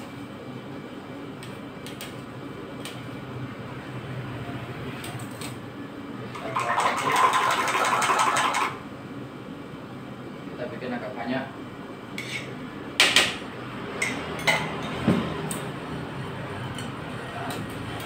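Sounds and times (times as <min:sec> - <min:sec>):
cooling unit hum: 0:00.0 - 0:18.0.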